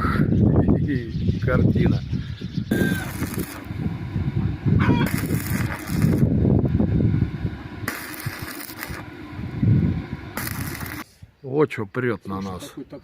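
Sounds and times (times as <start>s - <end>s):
wind gusting across microphone: 0.0s - 11.0s.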